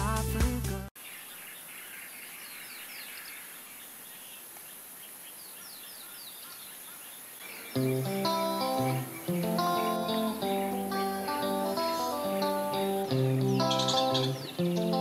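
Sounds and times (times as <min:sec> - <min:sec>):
birds chirping: 0:01.0 - 0:15.0
outdoor background hiss: 0:01.0 - 0:15.0.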